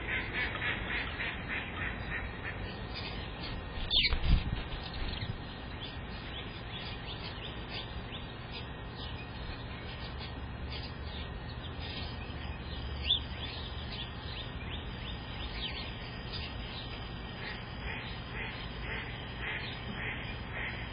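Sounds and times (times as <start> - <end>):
low steady rumble: 0.0 - 20.9
small birds chirping: 0.0 - 20.9.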